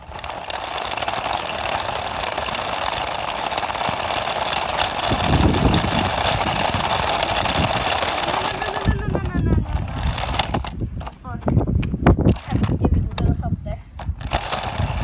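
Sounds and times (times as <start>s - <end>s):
rc car whirring: 0.0s - 11.1s, 12.3s - 13.4s, 14.0s - 15.0s.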